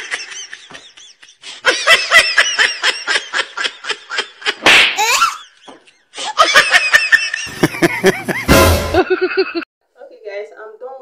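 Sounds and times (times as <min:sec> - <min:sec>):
person laughing hard: 0:00.0 - 0:09.6.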